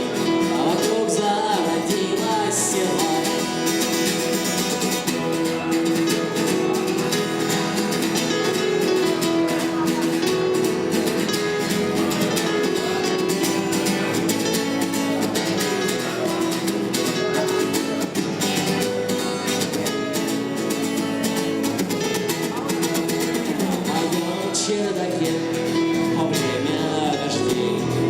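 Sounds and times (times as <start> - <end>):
strummed acoustic guitar: 0.0 - 28.0.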